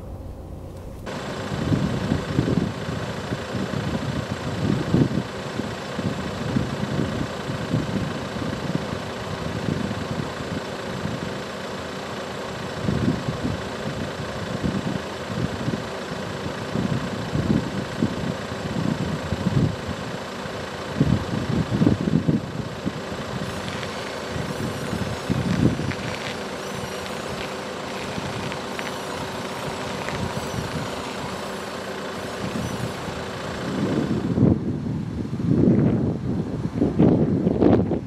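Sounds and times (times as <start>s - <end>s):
diesel van engine running: 0.0s - 38.0s.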